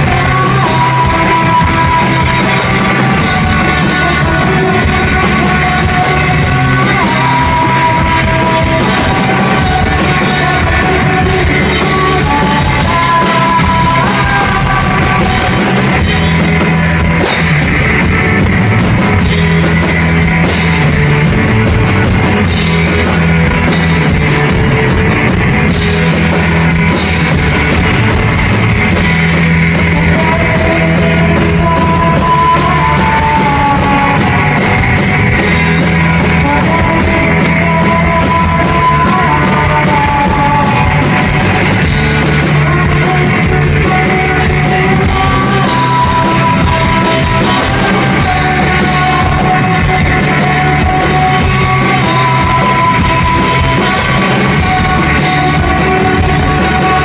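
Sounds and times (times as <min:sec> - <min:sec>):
drum kit with cymbals: 0:00.0 - 0:57.0
electric guitar: 0:00.0 - 0:57.0.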